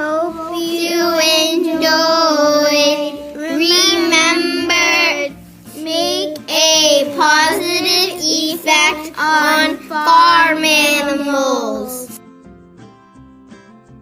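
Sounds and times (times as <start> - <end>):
high singing voice: 0.0 - 12.2
instrumental accompaniment: 0.0 - 14.0.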